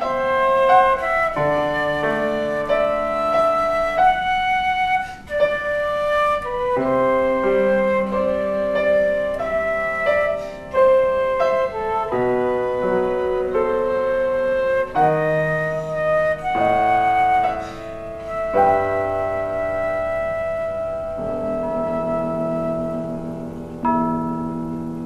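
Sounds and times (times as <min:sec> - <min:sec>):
slow instrumental melody: 0:00.0 - 0:25.0.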